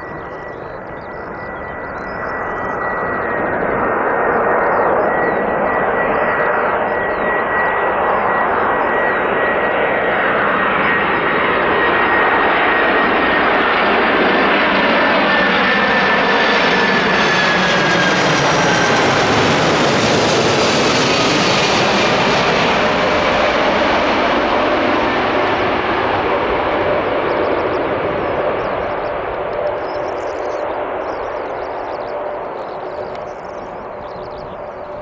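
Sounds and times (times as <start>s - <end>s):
jet plane passing overhead: 0.0s - 35.0s.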